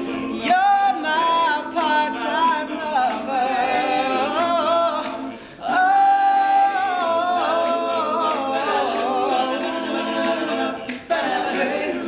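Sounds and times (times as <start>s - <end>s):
male a cappella group singing: 0.0s - 12.0s.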